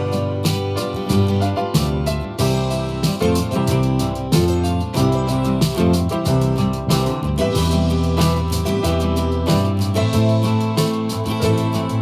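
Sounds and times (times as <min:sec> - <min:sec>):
instrumental guitar music with beat: 0:00.0 - 0:12.0.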